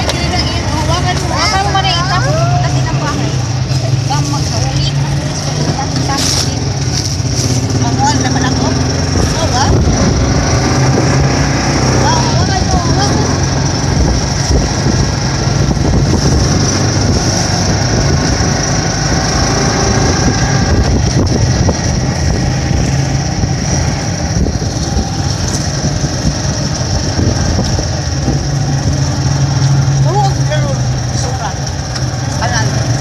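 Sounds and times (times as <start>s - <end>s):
car engine hum: 0.0s - 33.0s
road noise hiss: 0.0s - 33.0s.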